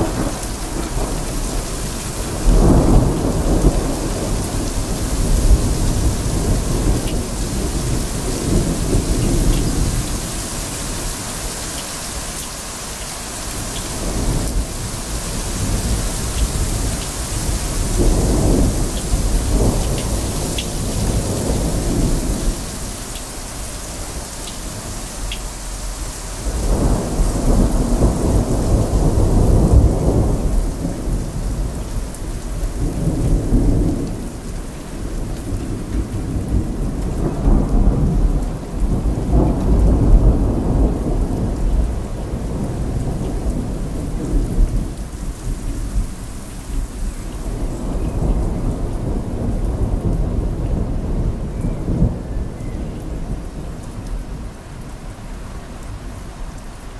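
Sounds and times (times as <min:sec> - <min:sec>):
thunder rumbling: 0:00.0 - 0:11.6, 0:13.4 - 0:54.6
rain hissing: 0:00.0 - 0:56.9.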